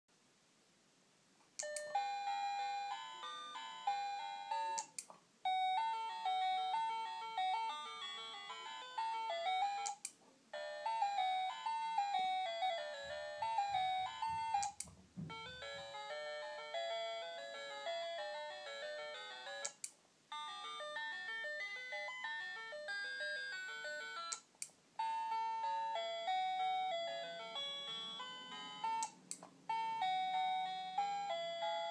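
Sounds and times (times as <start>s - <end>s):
beeping electronic toy melody: 1.6s - 4.9s, 5.5s - 24.4s, 25.0s - 31.9s.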